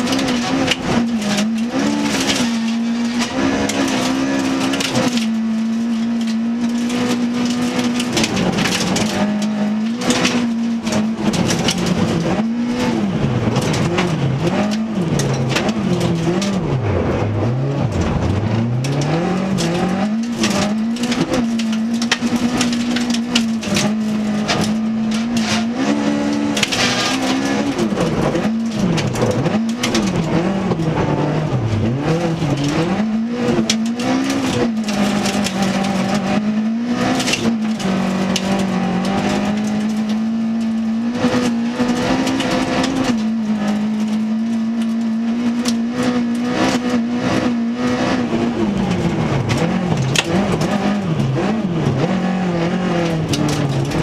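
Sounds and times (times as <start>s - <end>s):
gravel and ice striking underbody: 0.0s - 47.5s, 48.6s - 54.0s
rally car engine accelerating: 0.0s - 54.0s.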